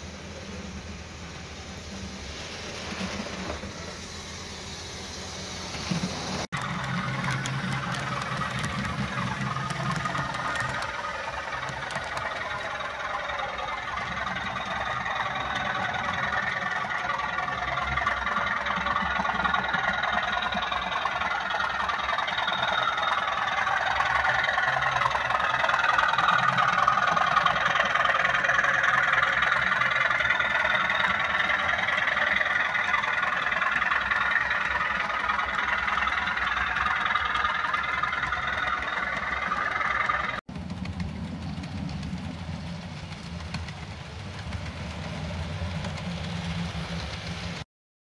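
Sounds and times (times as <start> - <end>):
model train running on track: 0.0 - 47.6.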